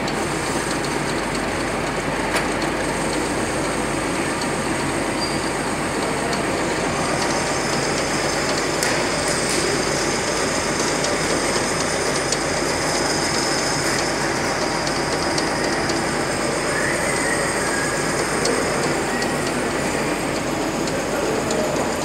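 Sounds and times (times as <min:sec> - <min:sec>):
metal lathe running: 0:00.0 - 0:22.0.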